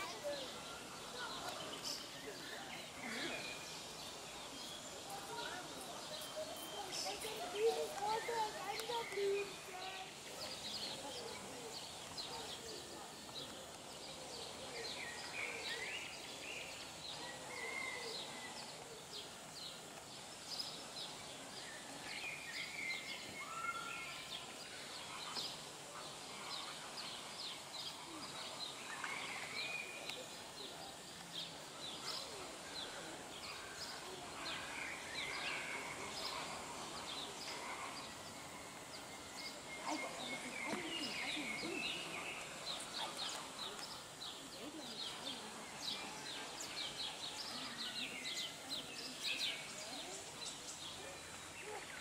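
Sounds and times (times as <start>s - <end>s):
outdoor background noise: 0.0s - 52.0s
songbirds chirping and singing: 0.0s - 52.0s.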